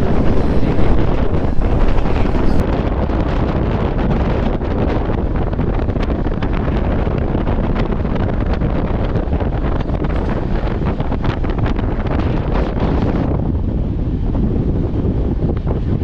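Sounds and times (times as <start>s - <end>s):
train rumble: 0.0s - 16.0s
wind buffeting microphone: 0.0s - 16.0s.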